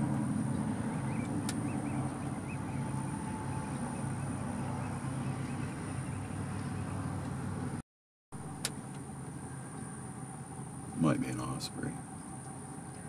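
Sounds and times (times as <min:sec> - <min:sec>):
vehicle engine idling: 0:00.0 - 0:07.8, 0:08.4 - 0:13.0.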